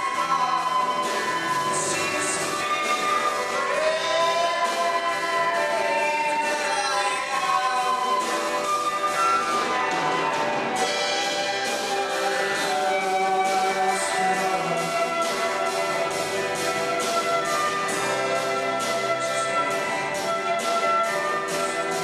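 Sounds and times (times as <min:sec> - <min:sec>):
acoustic guitar: 0:00.0 - 0:22.0
bass guitar: 0:00.0 - 0:22.0
drums: 0:00.0 - 0:22.0
electric guitar: 0:00.0 - 0:22.0
flute melody: 0:00.0 - 0:22.0.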